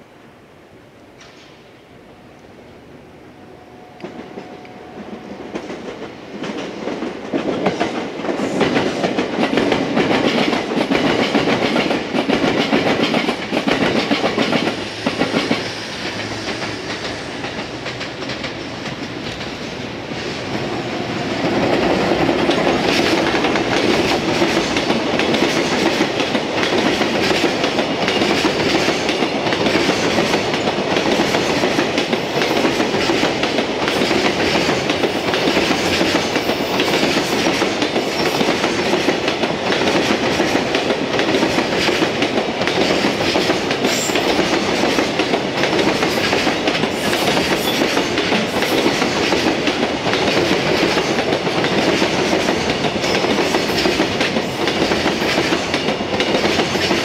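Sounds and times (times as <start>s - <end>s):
train passing: 0.0s - 57.0s
train wheels clacking over rail joints: 4.0s - 57.0s.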